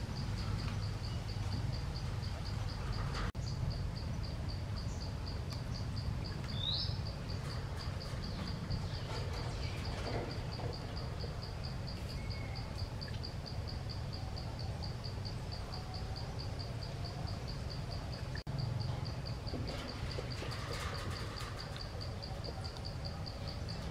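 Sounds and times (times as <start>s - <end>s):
insect chirping steadily: 0.0s - 23.9s.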